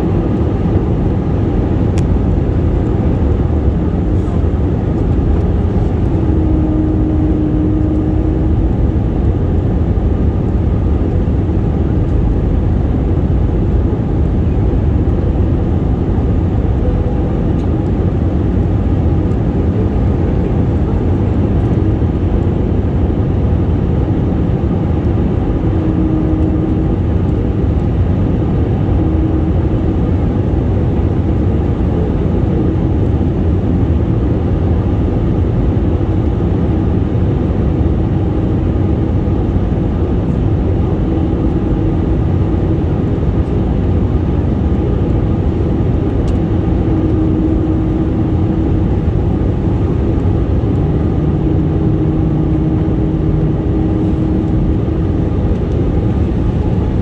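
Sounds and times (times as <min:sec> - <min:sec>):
airplane low rumble: 0:00.0 - 0:57.0.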